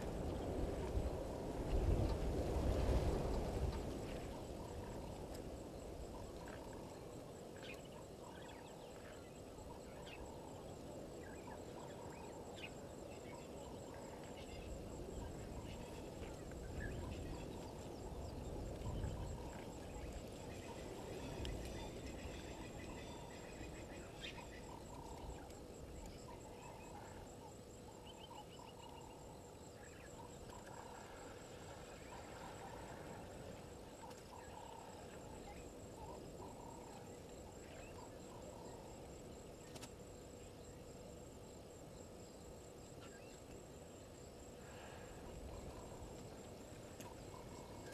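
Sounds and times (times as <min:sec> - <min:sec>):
high insect trill: 0:00.0 - 0:47.9
frogs calling: 0:03.3 - 0:47.9.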